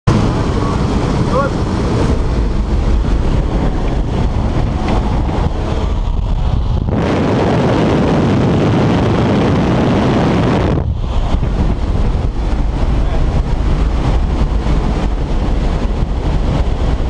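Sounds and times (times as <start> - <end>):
plane engine and propeller drone: 0.1 - 17.0
rush of wind: 0.1 - 17.0.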